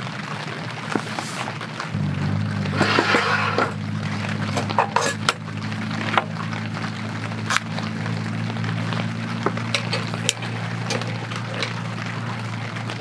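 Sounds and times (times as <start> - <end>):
steady low hum: 2.0 - 13.0.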